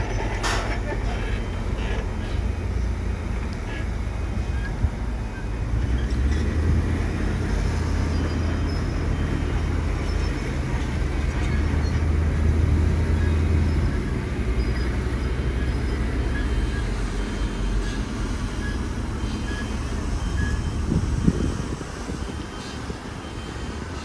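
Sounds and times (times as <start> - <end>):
diesel machine engine droning: 0.0 - 24.0.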